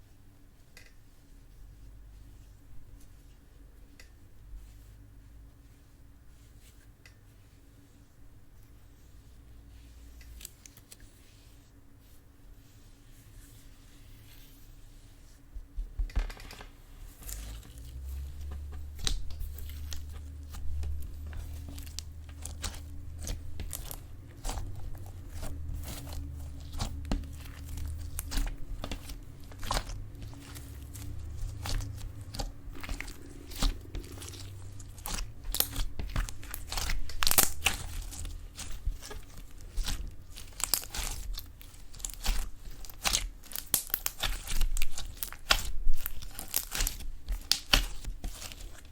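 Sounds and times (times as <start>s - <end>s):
slime squishing with sticky crackles: 0.0s - 16.1s, 16.7s - 48.9s
low steady hum: 0.0s - 48.9s.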